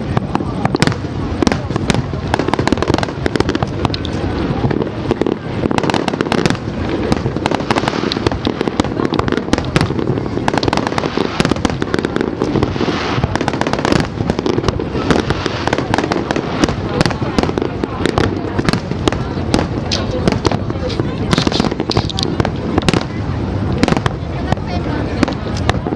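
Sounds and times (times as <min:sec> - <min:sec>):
fireworks bangs and crackling: 0:00.0 - 0:25.9.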